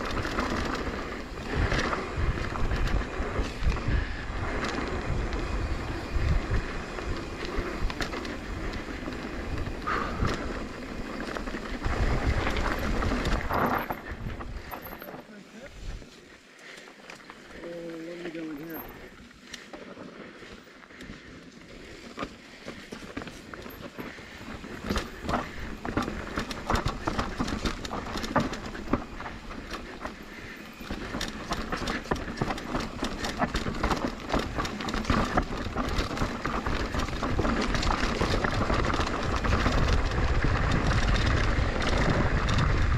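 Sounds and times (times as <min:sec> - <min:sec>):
wind buffeting microphone: 0:00.0 - 0:15.0, 0:23.1 - 0:42.9
bike clicks and knocks: 0:00.0 - 0:15.3, 0:16.6 - 0:42.9
tyres on dirt: 0:00.0 - 0:42.9.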